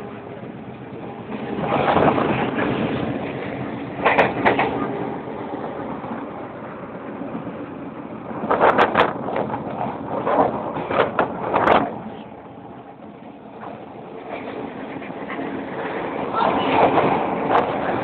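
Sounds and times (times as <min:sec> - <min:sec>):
train carriage rumble: 0:00.0 - 0:18.0.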